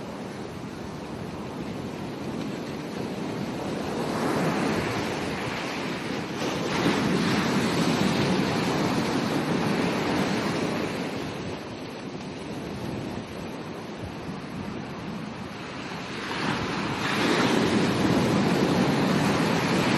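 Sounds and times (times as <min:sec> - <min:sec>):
ocean surf washing onto beach: 0:00.0 - 0:19.9.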